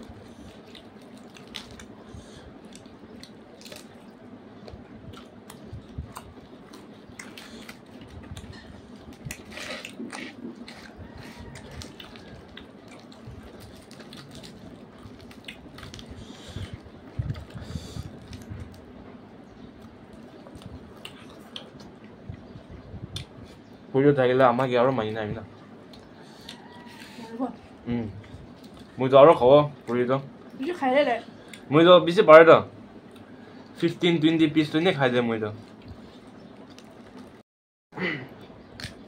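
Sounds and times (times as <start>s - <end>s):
wet chewing and smacking: 0.0s - 23.7s, 25.5s - 30.6s, 33.0s - 33.8s, 35.6s - 37.4s, 38.7s - 39.0s.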